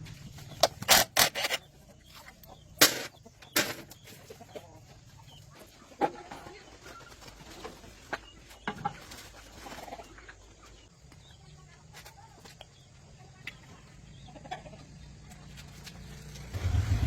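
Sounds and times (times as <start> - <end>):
chickens clucking: 0.0 - 16.5.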